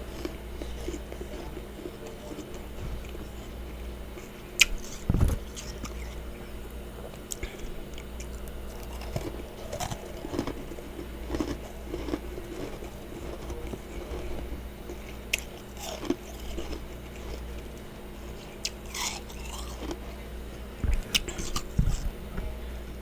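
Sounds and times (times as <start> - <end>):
person crunching frost: 0.0 - 22.2
steady low hum: 0.0 - 23.0.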